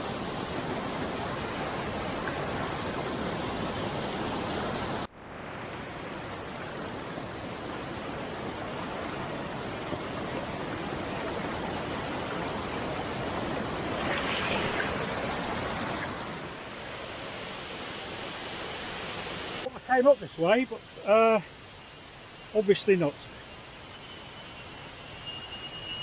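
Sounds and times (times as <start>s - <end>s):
stream rushing over rock: 0.0s - 23.8s.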